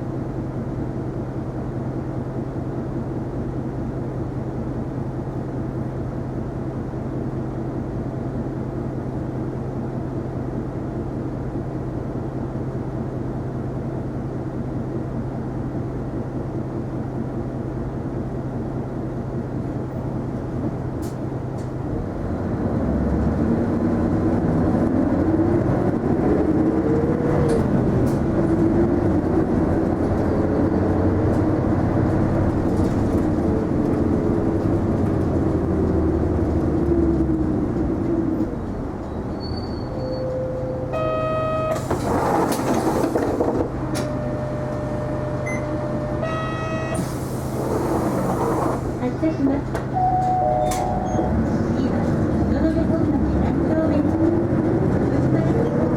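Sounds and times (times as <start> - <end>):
bus diesel engine idling: 0.0 - 55.9.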